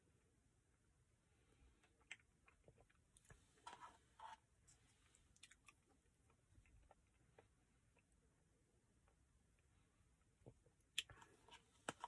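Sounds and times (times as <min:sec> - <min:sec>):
quiet eating sounds: 0:01.4 - 0:12.0.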